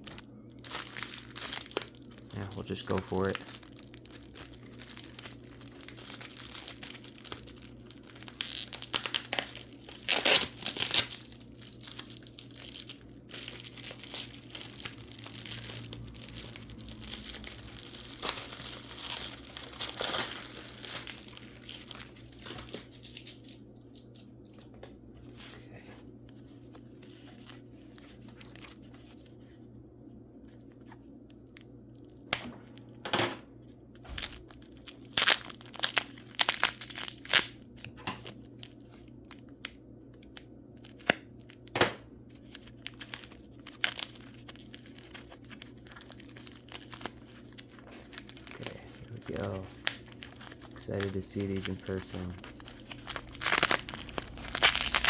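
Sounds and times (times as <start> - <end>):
packing material tearing and crumpling: 0.0 - 24.1, 26.6 - 29.6, 34.0 - 41.7, 42.3 - 55.0.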